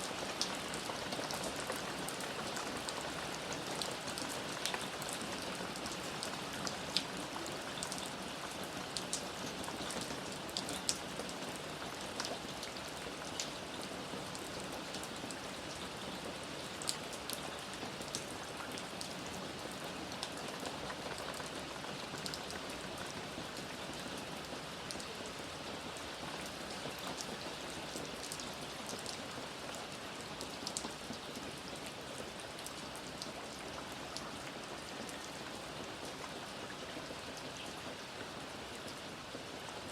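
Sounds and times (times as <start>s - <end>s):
raindrops pattering on a surface: 0.0s - 39.9s.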